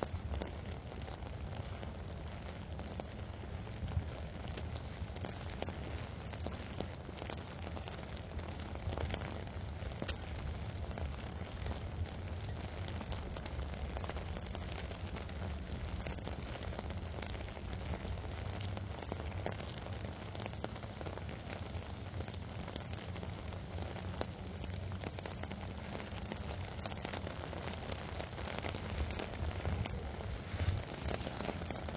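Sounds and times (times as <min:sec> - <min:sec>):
heavy rain on an umbrella: 0:00.0 - 0:31.9.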